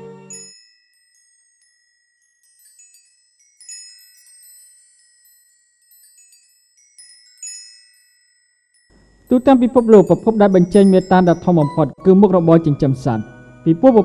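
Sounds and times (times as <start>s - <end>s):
tinkling chime tones: 0.0s - 14.0s.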